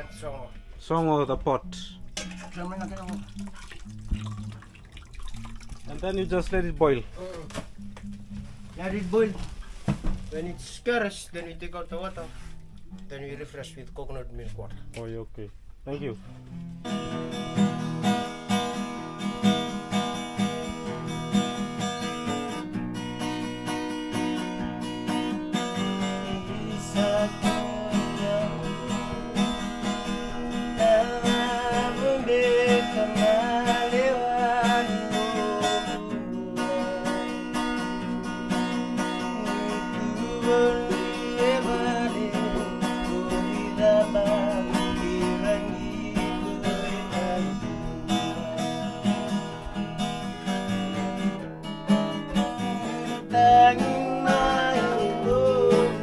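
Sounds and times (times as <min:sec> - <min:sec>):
acoustic guitar strummed and picked: 0:00.0 - 0:56.0.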